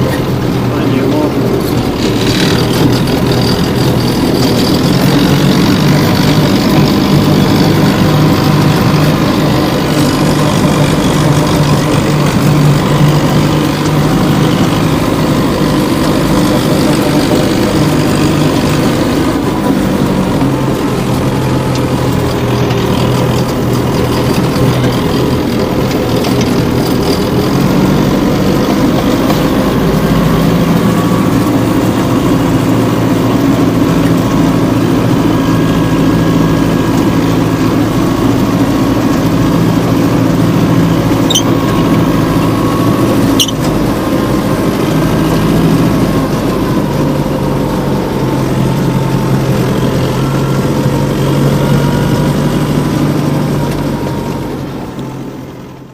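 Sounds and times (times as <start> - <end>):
small tractor engine running: 0.0 - 55.9.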